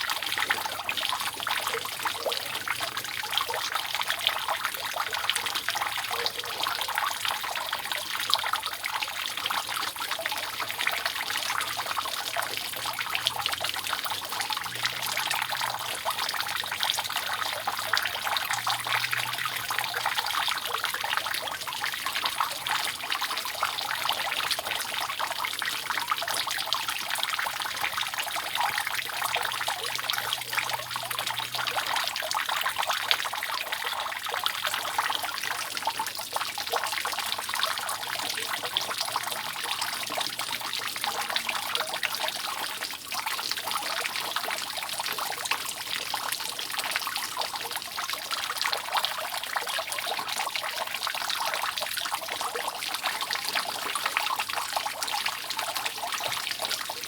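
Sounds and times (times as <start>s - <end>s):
rainwater dripping off a roof: 0.0s - 57.0s.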